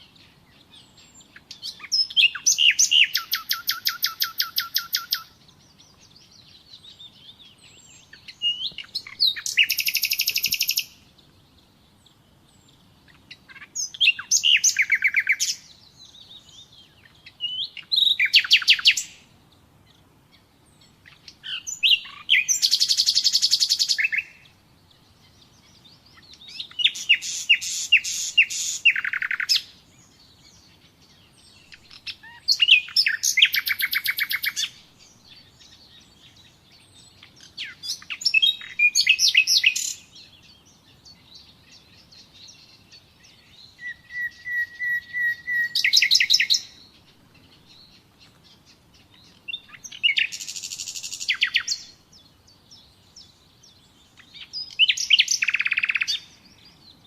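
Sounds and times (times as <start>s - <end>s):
nightingale singing: 0.0s - 57.0s.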